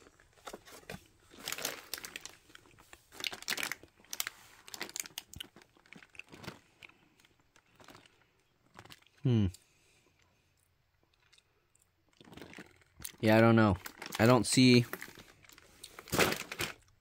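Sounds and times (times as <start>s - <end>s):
plastic packaging crinkling: 0.0s - 9.2s, 12.1s - 17.0s.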